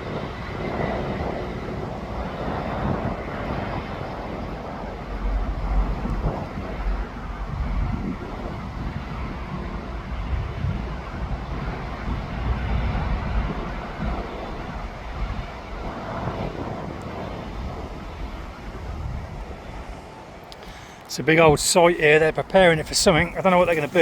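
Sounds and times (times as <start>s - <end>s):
low rumble of vehicle engines: 0.0s - 24.0s
wind buffeting microphone: 0.0s - 24.0s.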